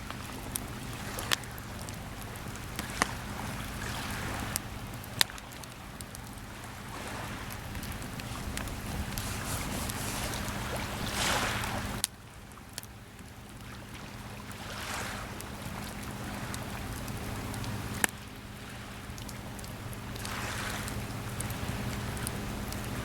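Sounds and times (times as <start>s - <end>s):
campfire pops: 0.0s - 13.9s, 15.2s - 23.0s
small waves washing onto shore: 0.0s - 23.0s.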